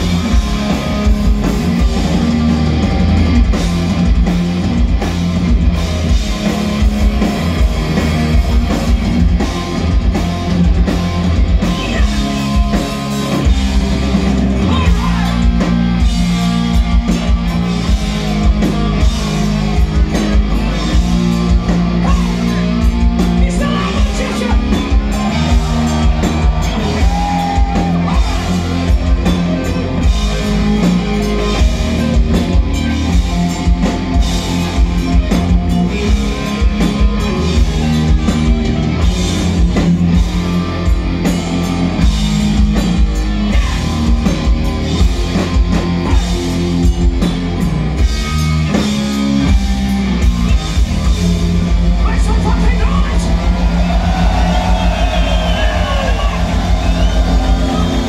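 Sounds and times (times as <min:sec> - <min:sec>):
live hard rock band: 0:00.0 - 0:58.0.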